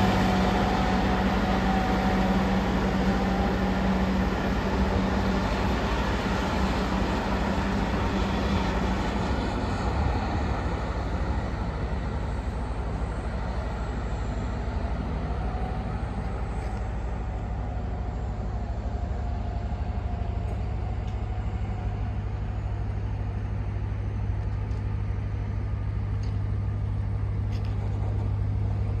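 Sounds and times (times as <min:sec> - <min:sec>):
diesel engine running: 0:00.0 - 0:29.0
higher engine tone: 0:00.0 - 0:29.0.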